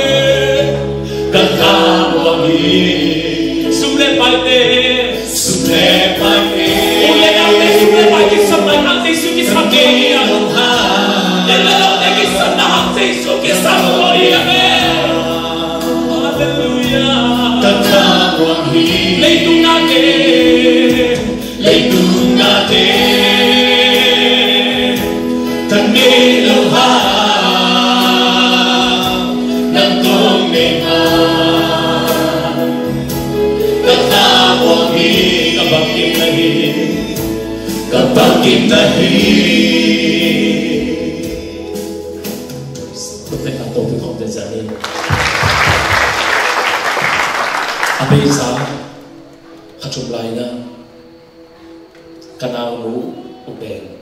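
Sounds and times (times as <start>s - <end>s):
choir singing gospel song: 0.0s - 50.5s.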